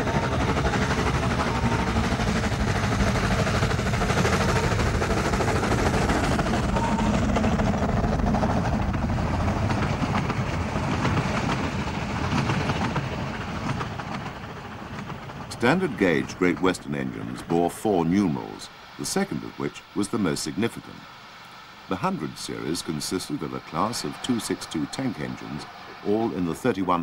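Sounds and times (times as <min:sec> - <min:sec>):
coaches rolling by: 0:00.0 - 0:21.1, 0:21.8 - 0:27.0
steam locomotive passing: 0:00.0 - 0:27.0.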